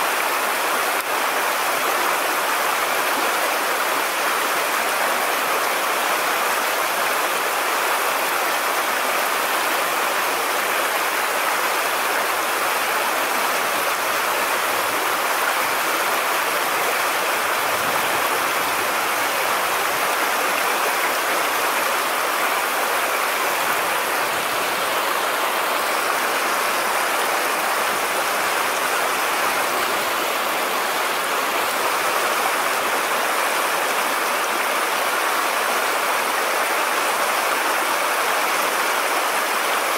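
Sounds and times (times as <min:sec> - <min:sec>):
stream water rushing over riffle: 0:00.0 - 0:39.9.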